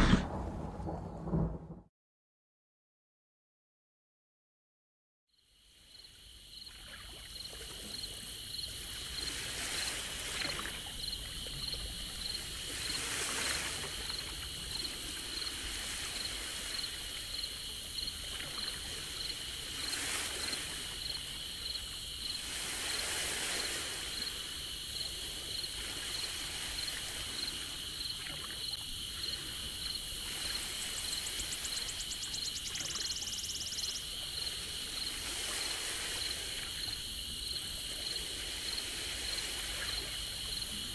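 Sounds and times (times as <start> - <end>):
crickets chirring: 5.3 - 40.9
soft hissing noise: 5.8 - 40.9.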